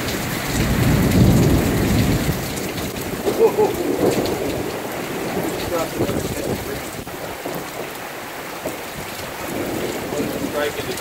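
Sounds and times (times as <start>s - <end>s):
thunder rumbling: 0.0s - 8.0s, 8.6s - 11.0s
heavy rain pouring: 0.0s - 11.0s.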